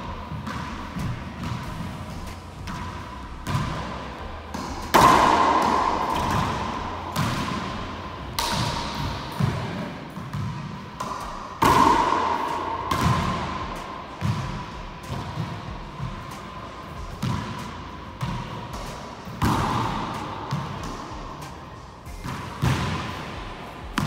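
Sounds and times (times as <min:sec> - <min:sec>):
racquetball ball hits echoing: 0:00.0 - 0:24.0.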